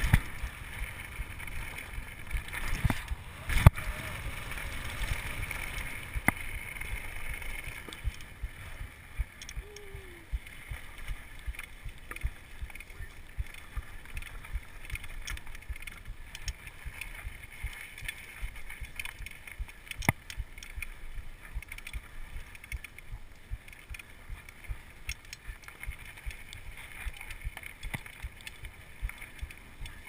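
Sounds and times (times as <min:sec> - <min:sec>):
mountain bike rattling over rough ground: 0:00.0 - 0:09.6, 0:10.5 - 0:30.0.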